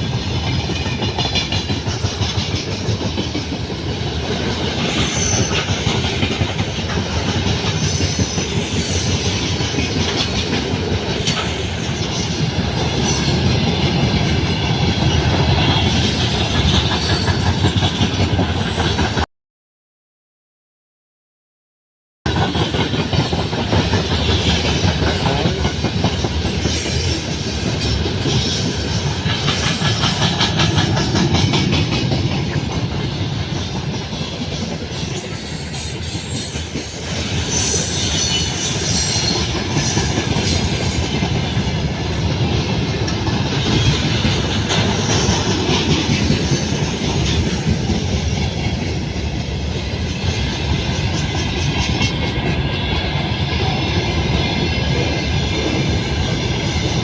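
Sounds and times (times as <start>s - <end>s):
train wheels clicking over rail joints: 0.0s - 19.2s, 22.3s - 57.0s.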